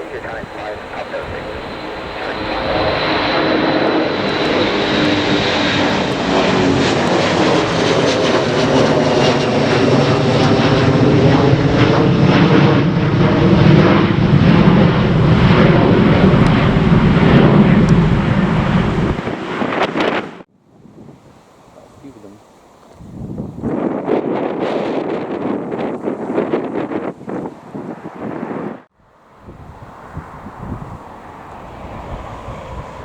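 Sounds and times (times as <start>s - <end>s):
airliner engines passing close: 0.0s - 20.5s, 23.4s - 33.0s.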